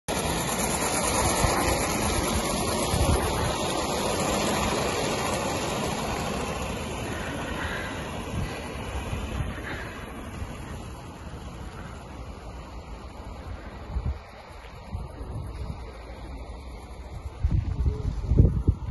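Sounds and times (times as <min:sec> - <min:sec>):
model steam locomotive running: 0:00.0 - 0:18.9
wind buffeting microphone: 0:00.1 - 0:18.9.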